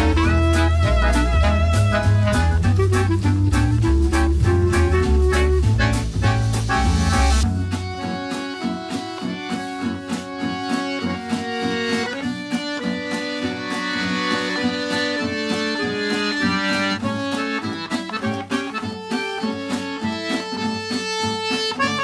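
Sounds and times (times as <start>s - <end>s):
instrumental music with steady beat: 0.0s - 22.0s.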